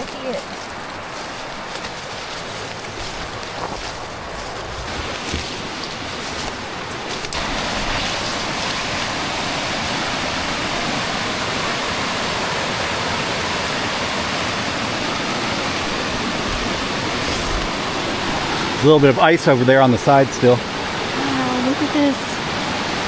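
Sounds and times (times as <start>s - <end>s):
creek rushing over cascade: 0.0s - 23.0s.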